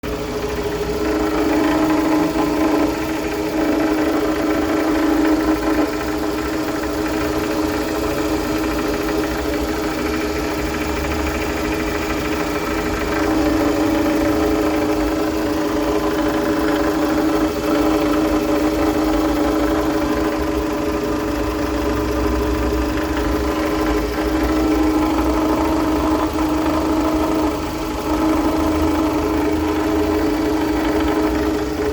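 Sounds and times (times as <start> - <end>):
car engine running with knock: 0.0 - 31.9.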